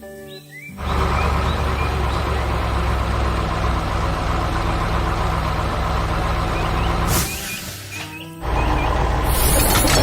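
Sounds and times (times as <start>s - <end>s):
heavy machinery rumble: 0.8s - 10.0s.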